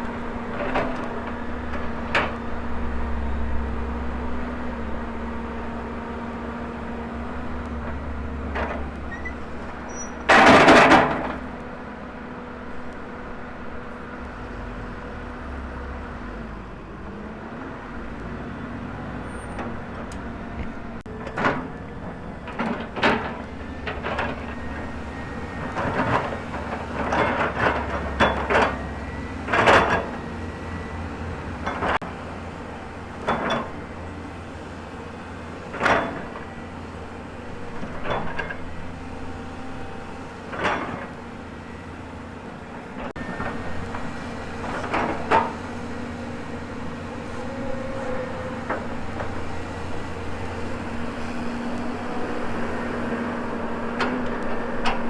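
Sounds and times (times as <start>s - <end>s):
bucket and arm clanking: 0.0s - 11.7s, 19.4s - 55.0s
excavator diesel engine running: 0.0s - 55.0s.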